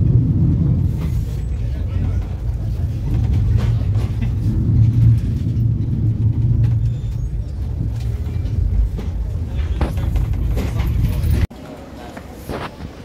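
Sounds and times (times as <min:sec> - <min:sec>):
moving train rumbling: 0:00.0 - 0:13.0.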